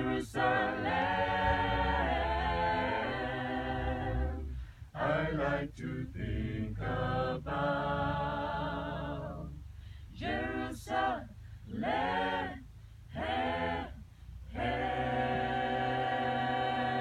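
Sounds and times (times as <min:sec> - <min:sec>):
voices singing unaccompanied: 0:00.0 - 0:17.0.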